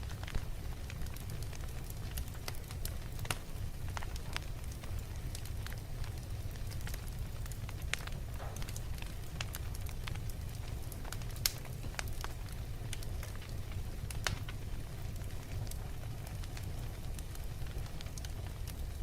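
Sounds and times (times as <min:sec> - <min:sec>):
fire crackling and popping: 0:00.0 - 0:19.0
low rumble of fire: 0:00.0 - 0:19.0.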